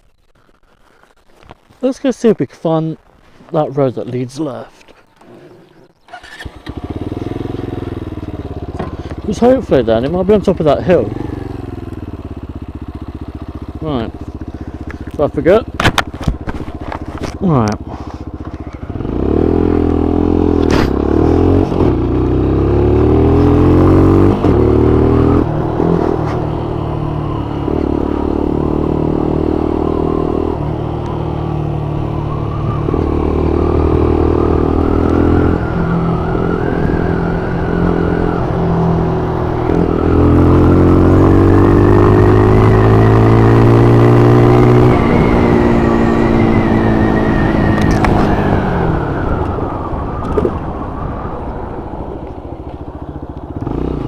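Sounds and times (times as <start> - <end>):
motorcycle engine revving through gears: 5.2 - 50.6, 52.2 - 54.0.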